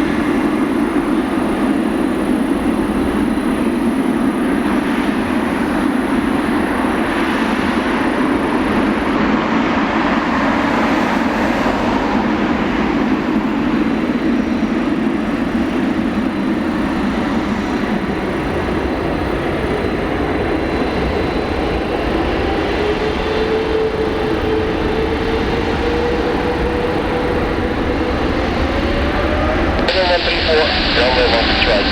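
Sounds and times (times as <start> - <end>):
jet engines at takeoff thrust: 0.0 - 31.9.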